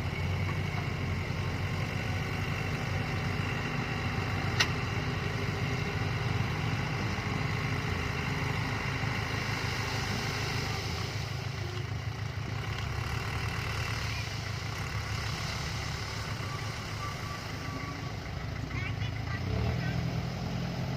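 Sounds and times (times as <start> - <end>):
dump truck engine running: 0.0 - 20.9.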